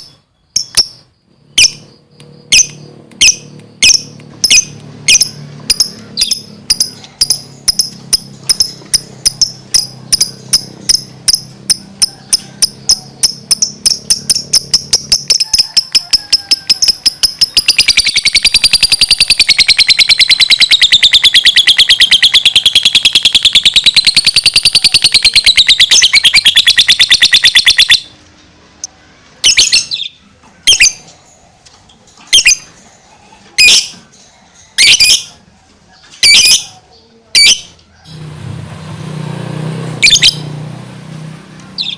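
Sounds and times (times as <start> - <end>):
lovebird chirping and trilling: 0.0 - 28.2, 29.4 - 31.1, 32.3 - 32.7, 33.6 - 35.4, 36.0 - 36.8, 37.4 - 38.2, 40.0 - 40.5.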